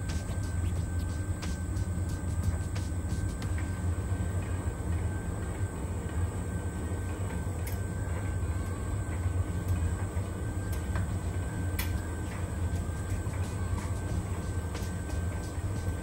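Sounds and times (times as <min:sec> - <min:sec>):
faint high whine: 0:00.0 - 0:16.0
tumble dryer humming: 0:00.0 - 0:16.0.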